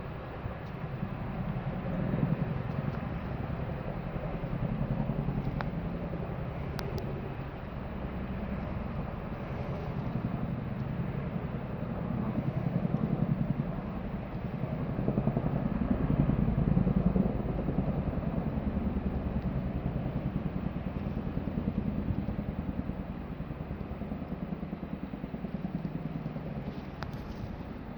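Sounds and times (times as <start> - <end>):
helicopter rotor blades beating: 0.0 - 27.9.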